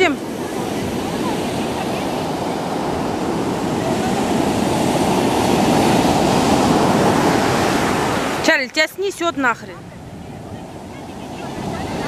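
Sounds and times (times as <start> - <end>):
surf breaking on beach: 0.0 - 12.0.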